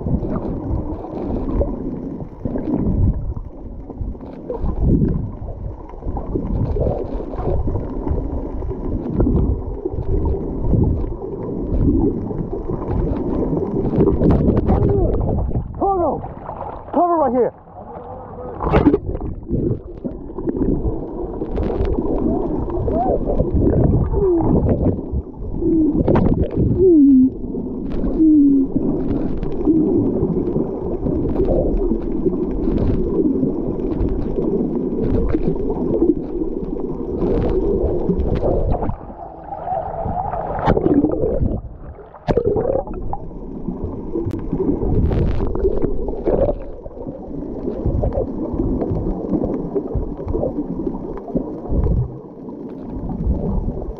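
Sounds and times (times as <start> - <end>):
underwater wash of water and bubbles: 0.0 - 53.9.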